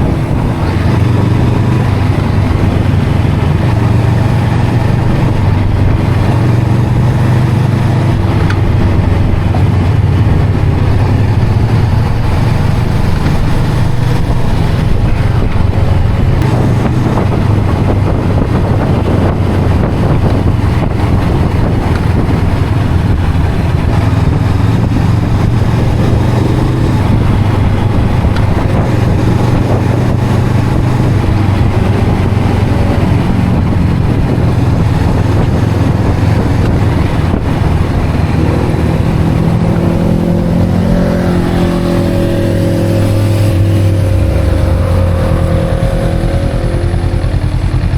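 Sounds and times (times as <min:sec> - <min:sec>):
motorcycle engine running steadily: 0:00.0 - 0:47.9.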